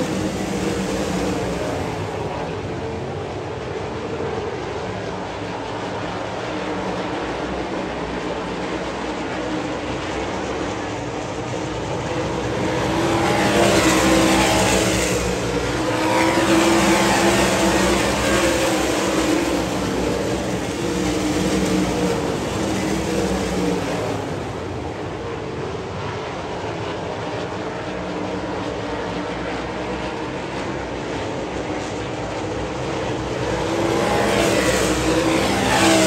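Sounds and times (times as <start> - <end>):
race car engines roaring: 0.0 - 36.0.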